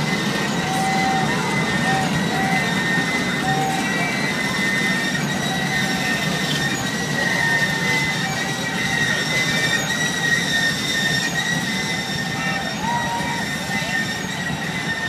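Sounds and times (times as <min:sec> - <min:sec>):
freight train rumble: 0:00.0 - 0:15.0
high wheel squeal: 0:00.0 - 0:15.0.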